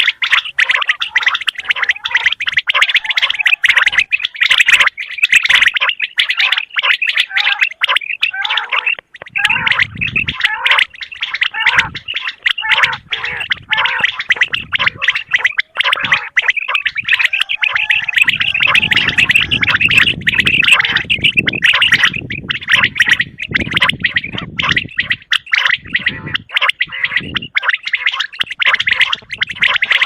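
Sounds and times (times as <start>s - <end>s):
quail calls: 0.0s - 30.0s.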